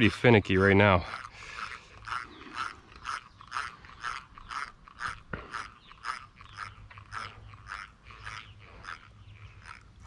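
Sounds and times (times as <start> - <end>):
fishing reel gears whirring: 0.0 - 10.0.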